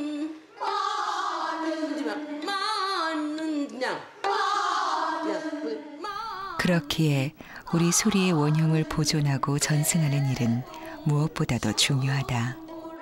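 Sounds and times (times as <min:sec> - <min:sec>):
woman singing with heavy vibrato: 0:00.0 - 0:13.0.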